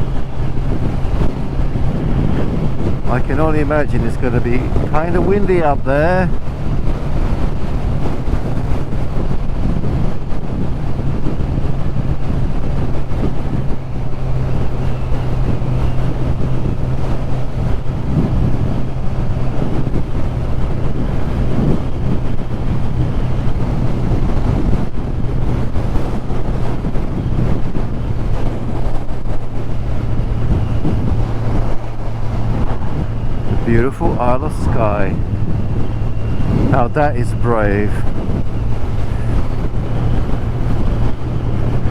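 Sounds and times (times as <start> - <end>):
motorcycle engine cruising: 0.0 - 41.9
wind rushing over microphone: 0.0 - 41.9.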